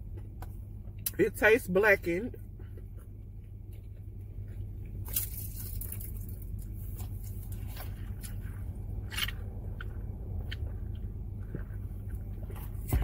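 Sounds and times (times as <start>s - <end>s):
low car cabin hum: 0.0s - 13.0s
chewing and mouth clicks: 2.3s - 13.0s.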